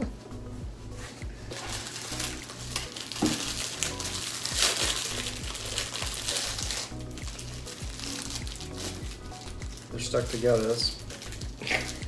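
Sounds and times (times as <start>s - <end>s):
background music with beat: 0.0s - 12.0s
foil wrapper crinkling: 1.5s - 12.0s.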